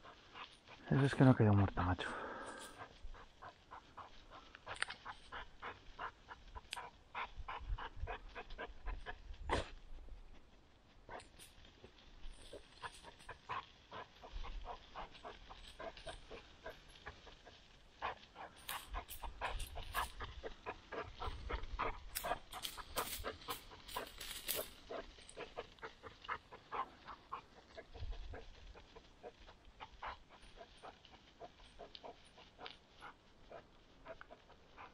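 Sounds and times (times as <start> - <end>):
dog panting: 0.0 - 9.7, 12.3 - 34.9
dry weeds crackling: 0.0 - 34.9.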